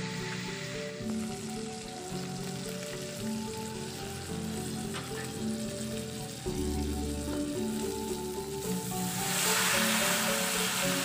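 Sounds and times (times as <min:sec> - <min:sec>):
food sizzling in a wok: 0:00.0 - 0:11.0
soft background music: 0:00.0 - 0:11.0.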